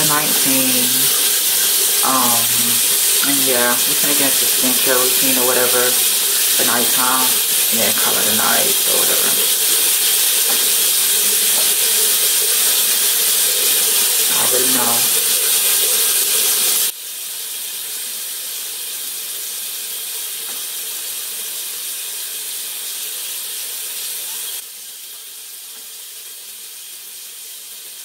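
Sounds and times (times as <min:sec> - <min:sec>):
running water hissing: 0:00.0 - 0:28.0.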